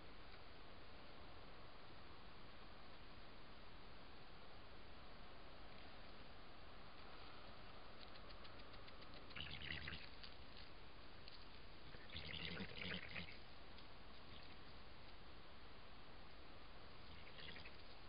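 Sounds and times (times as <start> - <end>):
microphone hiss: 0.0 - 18.0.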